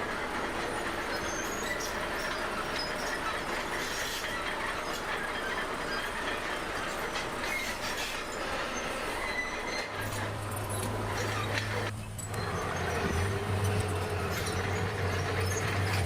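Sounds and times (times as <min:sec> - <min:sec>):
bulldozer engine: 0:00.0 - 0:16.0
steel tracks clanking and squealing: 0:00.0 - 0:16.0.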